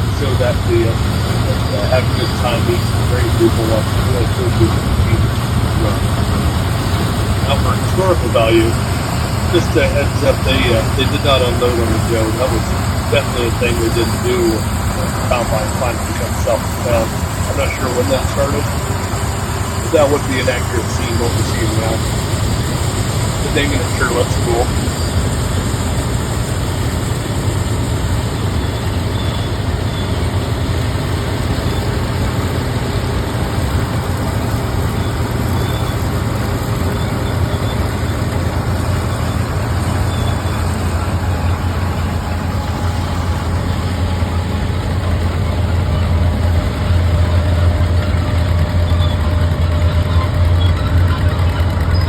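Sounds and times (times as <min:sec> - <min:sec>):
low engine drone: 0:00.0 - 0:52.0.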